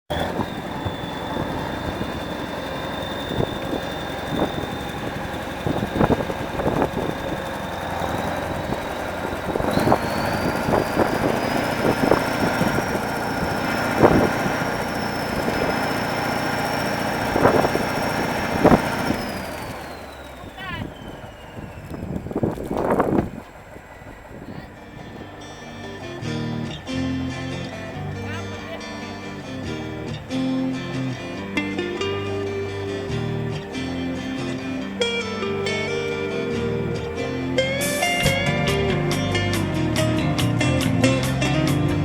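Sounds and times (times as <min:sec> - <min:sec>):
diesel engine running: 0:00.0 - 0:42.0
high engine whine: 0:00.0 - 0:42.0.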